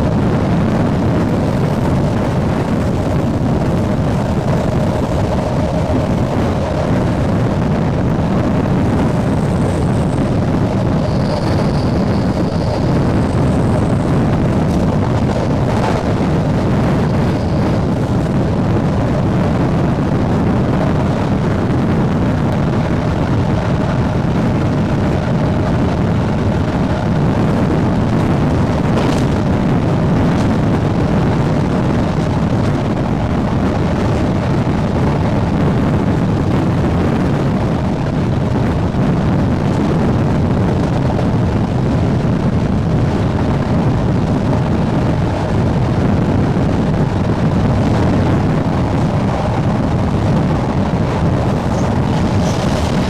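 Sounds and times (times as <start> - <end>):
train rumbling: 0.0 - 53.0
wind buffeting microphone: 0.0 - 53.0.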